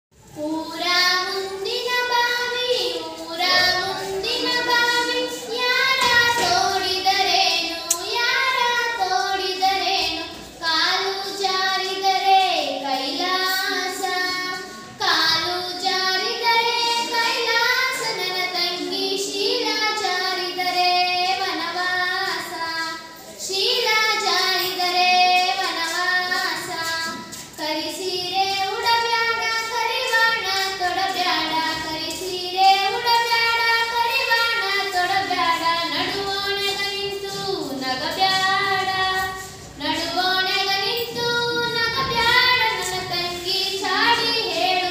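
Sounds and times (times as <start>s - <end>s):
girl singing folk song: 0.2s - 44.9s.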